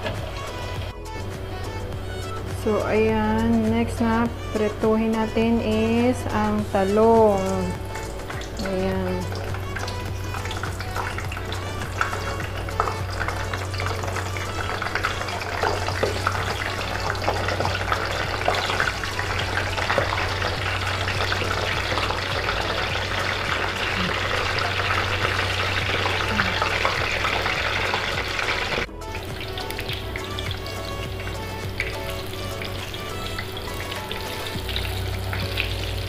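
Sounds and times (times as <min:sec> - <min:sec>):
slices frying in hot oil: 0:06.1 - 0:36.0.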